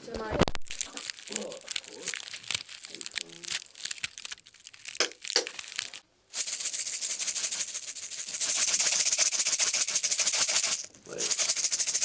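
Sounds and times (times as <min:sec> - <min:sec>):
fast rattling of tiny clicks: 0:00.7 - 0:12.0.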